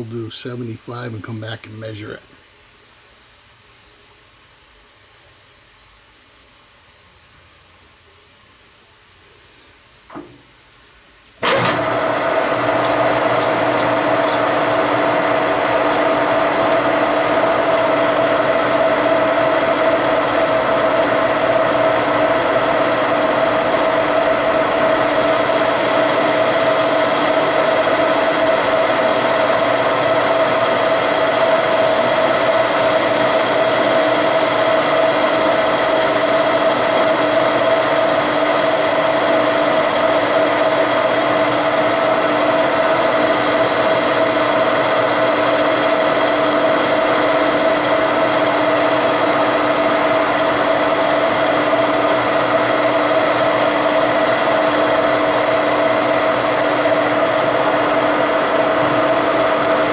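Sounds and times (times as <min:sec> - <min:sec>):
metal lathe running with whine: 0:11.4 - 0:59.9.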